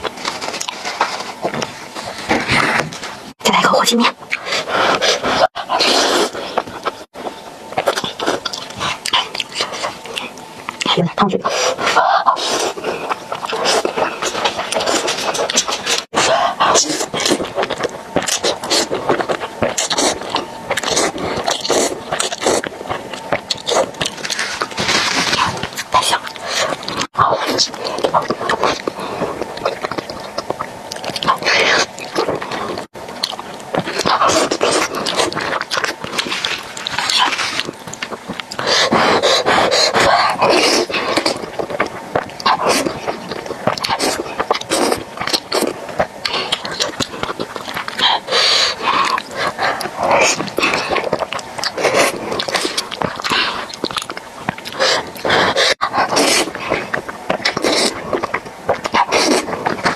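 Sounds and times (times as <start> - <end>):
slurping noodles: 4.3 - 7.1, 11.5 - 32.9, 33.7 - 59.9
wet chewing mouth clicks: 11.8 - 59.9.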